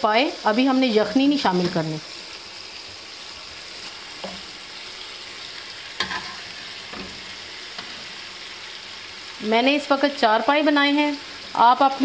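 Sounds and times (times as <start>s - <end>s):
masala sizzling in a wok: 0.0s - 12.0s.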